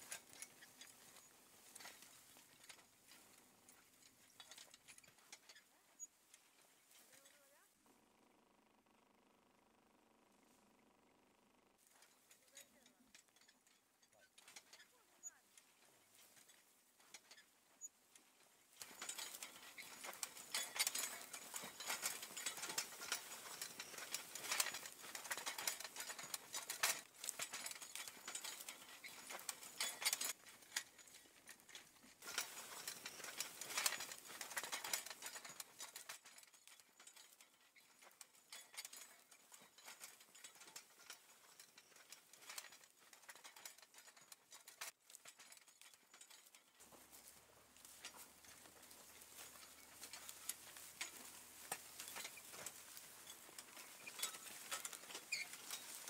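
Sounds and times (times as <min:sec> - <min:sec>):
plow scraping through dry soil: 0:00.0 - 0:07.7, 0:11.8 - 0:56.0.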